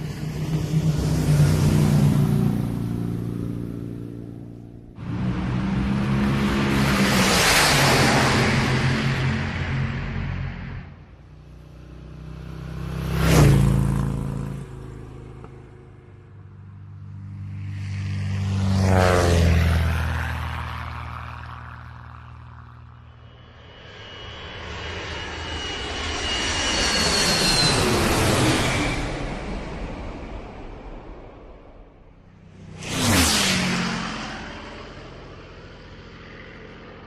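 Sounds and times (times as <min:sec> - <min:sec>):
vehicles passing by: 0:00.0 - 0:24.6, 0:27.3 - 0:37.0.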